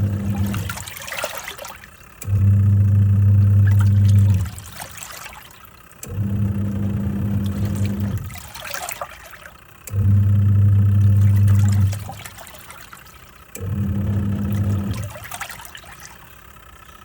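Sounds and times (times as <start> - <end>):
washing machine motor humming: 0.0 - 17.0
water sloshing in a tub: 0.0 - 17.0.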